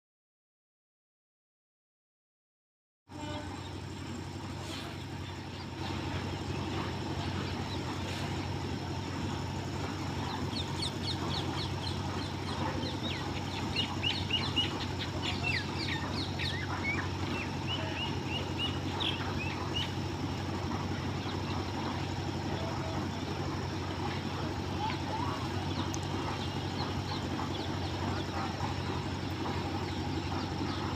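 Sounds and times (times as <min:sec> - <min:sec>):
small birds chirping: 0:03.2 - 0:30.9.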